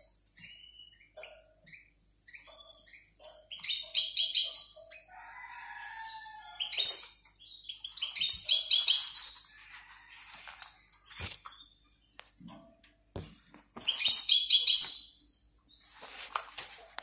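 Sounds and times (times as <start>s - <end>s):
cage birds chirping and trilling: 0.0s - 17.0s.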